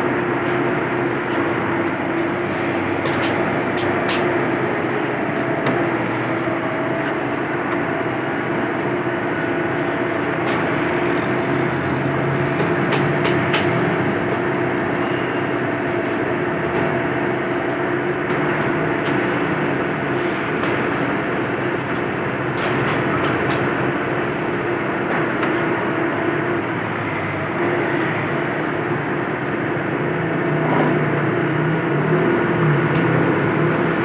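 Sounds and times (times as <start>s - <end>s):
diesel excavator engine running: 0.0s - 34.0s.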